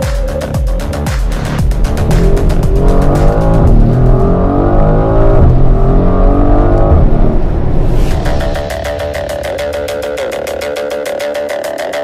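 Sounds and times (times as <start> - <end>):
car engine accelerating hard: 1.4 - 12.0
gear upshifts: 1.5 - 11.9.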